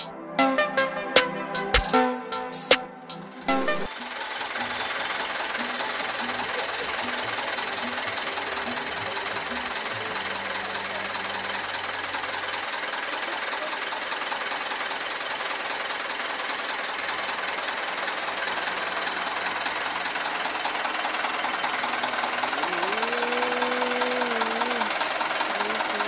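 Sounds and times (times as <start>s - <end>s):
diesel truck engine idling: 3.3s - 26.0s.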